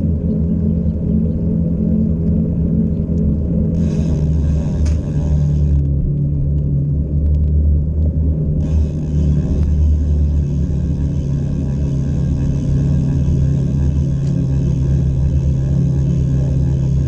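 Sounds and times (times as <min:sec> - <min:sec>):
bicycle tyres on asphalt: 0:00.0 - 0:17.0
wind rumble: 0:00.0 - 0:17.0.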